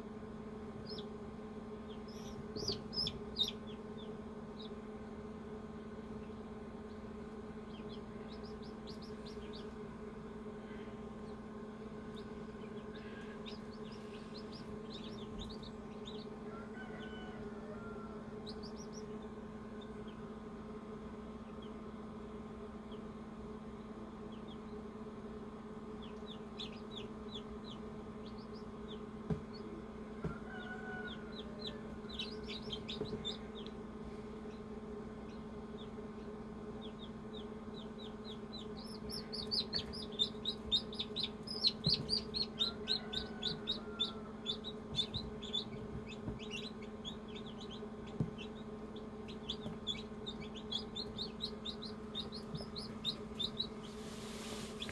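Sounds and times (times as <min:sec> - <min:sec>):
steady low hum: 0:00.0 - 0:54.9
chicks peeping: 0:00.7 - 0:01.2, 0:01.8 - 0:04.9, 0:06.0 - 0:20.4, 0:21.3 - 0:22.0, 0:22.8 - 0:23.1, 0:24.2 - 0:25.0, 0:25.8 - 0:54.9.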